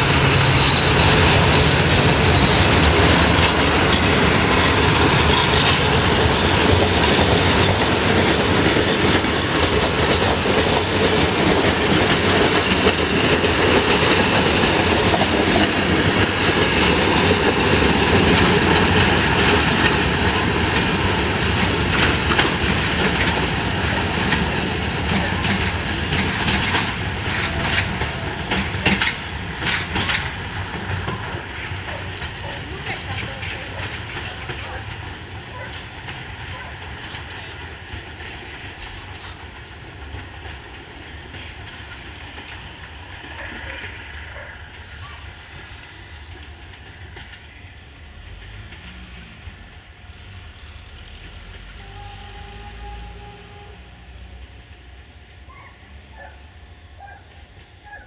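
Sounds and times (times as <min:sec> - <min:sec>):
train wheels clicking over rail joints: 0:00.0 - 0:56.3.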